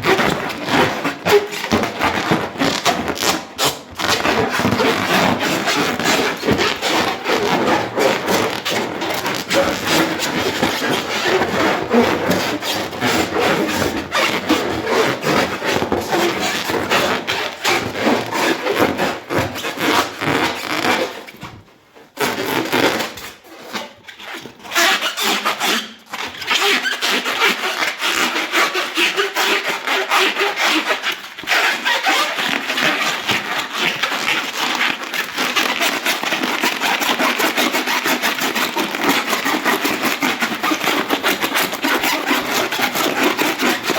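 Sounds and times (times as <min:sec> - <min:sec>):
hands rubbing a rubber balloon: 0:00.0 - 0:43.9.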